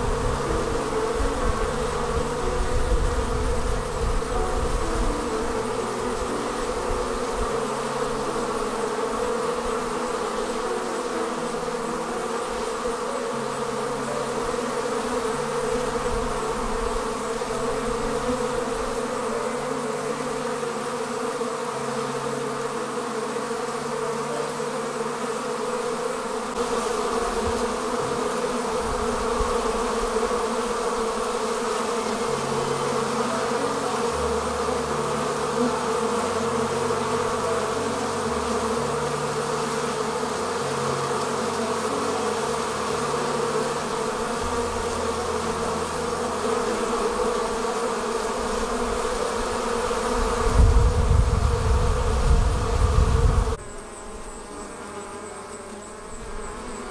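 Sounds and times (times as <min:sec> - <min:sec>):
honeybees buzzing: 0:00.0 - 0:56.9.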